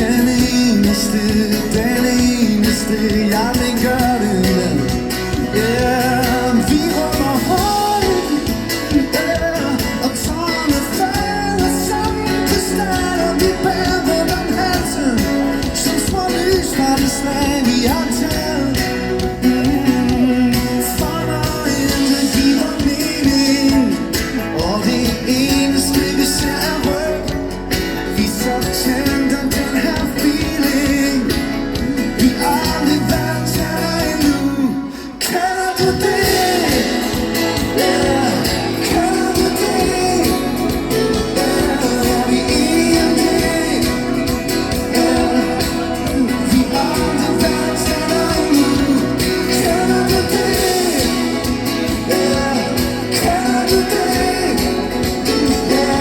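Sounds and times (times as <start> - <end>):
steady drumbeat: 0.0 - 34.6, 35.3 - 56.0
live rock band playing: 0.0 - 56.0
person singing: 0.0 - 56.0.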